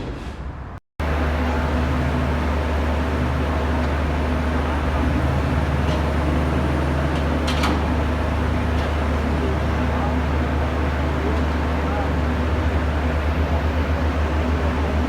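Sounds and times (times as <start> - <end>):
truck engine droning: 1.0 - 15.0.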